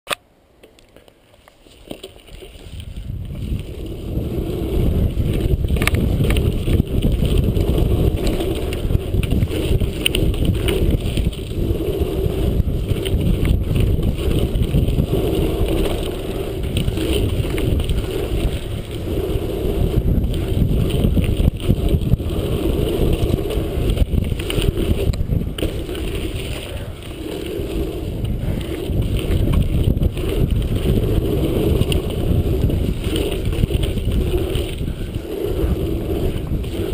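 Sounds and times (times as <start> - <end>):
bike tyres rolling over dirt: 0.6 - 36.9
wind rushing over microphone: 2.3 - 36.9.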